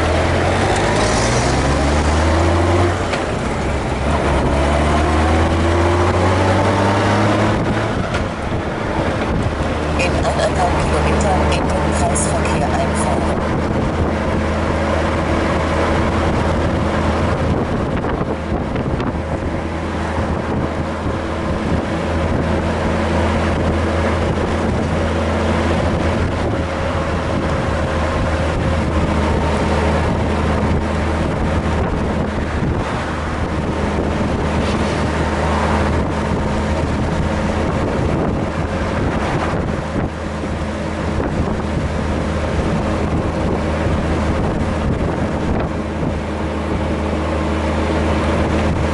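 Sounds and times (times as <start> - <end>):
wind noise on microphone: 0.0 - 48.9.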